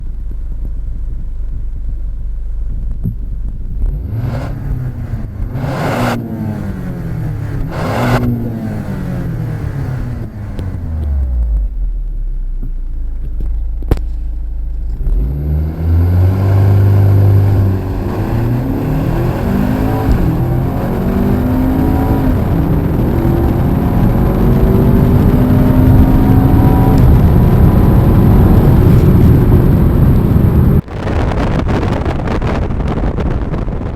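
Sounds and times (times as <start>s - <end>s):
car engine revving: 0.0s - 33.9s
rushing wind noise: 2.6s - 11.8s, 15.1s - 33.9s.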